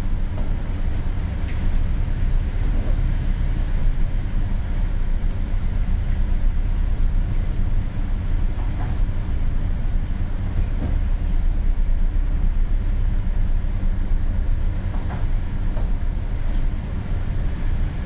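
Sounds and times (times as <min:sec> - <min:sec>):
storm wind and rain: 0:00.0 - 0:18.0.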